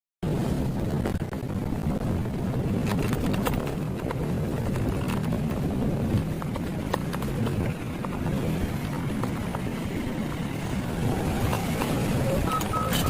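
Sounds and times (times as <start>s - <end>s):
low vehicle-like rumble: 0.2s - 13.0s.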